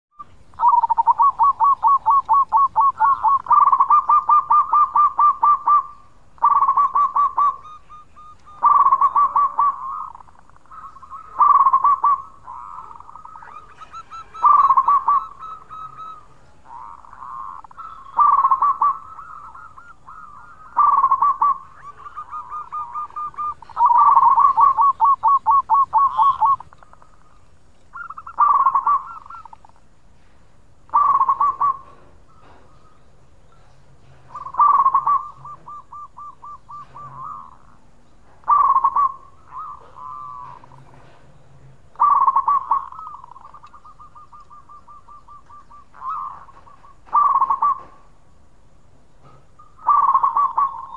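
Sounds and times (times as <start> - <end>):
dove cooing: 0.2 - 30.3, 30.9 - 41.2, 41.9 - 48.2, 49.2 - 50.9.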